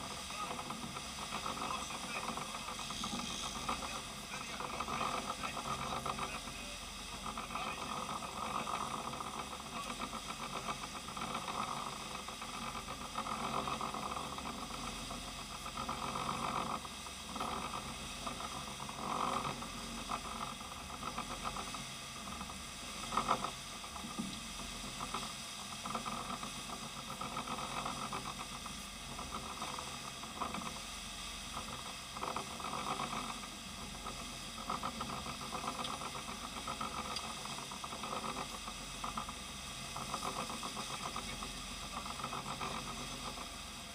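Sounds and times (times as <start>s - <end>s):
boat engines droning: 0.0s - 43.9s.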